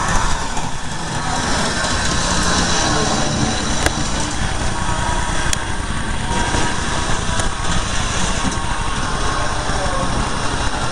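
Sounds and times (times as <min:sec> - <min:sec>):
toy train motor whirring: 0:00.0 - 0:10.9
wheels rattling on track: 0:00.0 - 0:10.9.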